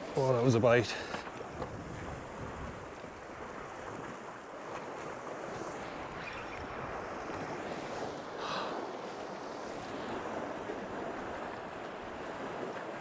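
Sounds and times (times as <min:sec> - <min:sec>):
sea surf washing over rocks: 0:00.0 - 0:13.0.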